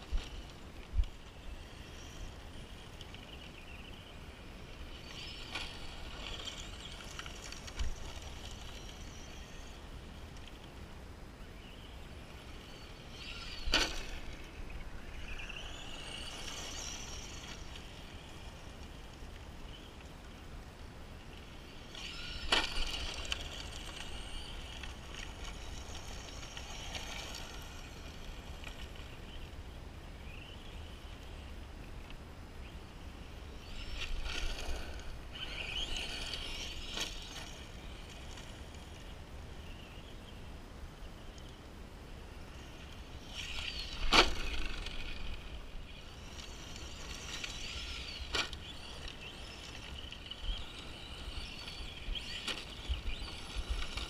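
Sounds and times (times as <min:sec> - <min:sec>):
rc truck motor on gravel: 0:00.0 - 0:54.0.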